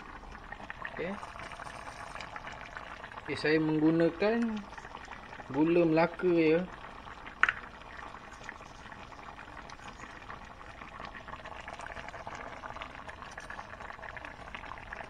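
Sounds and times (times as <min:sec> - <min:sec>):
curry bubbling in a pan: 0:00.0 - 0:15.0.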